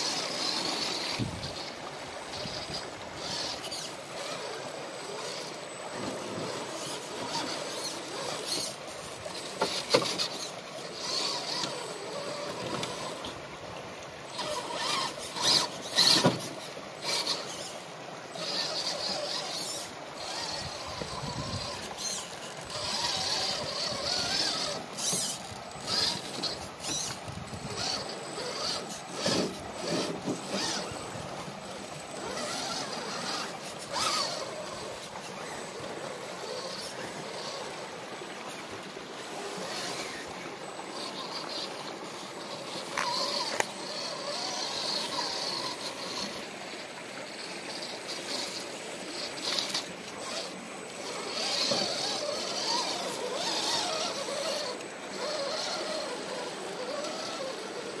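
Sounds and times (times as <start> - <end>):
creek rushing: 0.0 - 58.0
electric motor and gears whining: 0.0 - 58.0.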